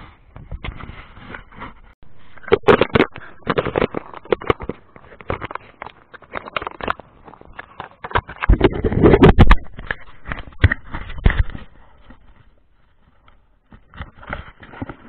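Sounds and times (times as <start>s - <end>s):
camera scraping and knocking: 0.0s - 15.0s.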